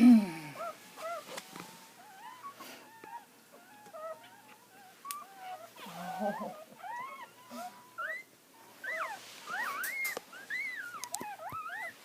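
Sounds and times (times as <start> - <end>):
newborn puppies squeaking and whining: 0.6 - 12.0.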